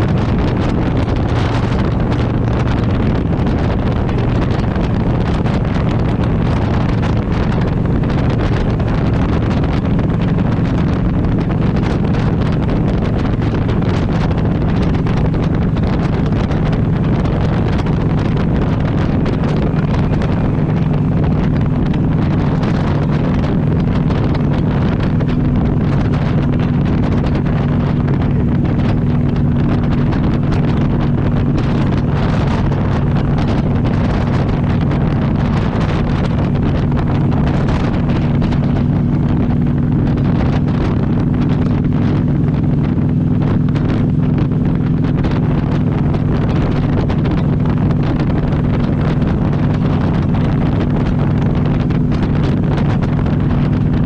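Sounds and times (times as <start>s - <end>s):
vehicle droning: 0.0s - 54.0s
wind rumbling on microphone: 0.0s - 54.0s.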